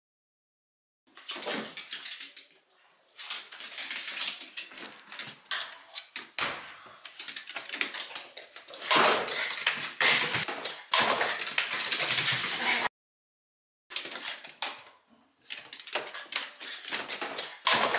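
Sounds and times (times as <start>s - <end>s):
dog claws clicking on wooden floor: 1.1s - 2.6s, 3.2s - 12.6s, 13.9s - 17.9s.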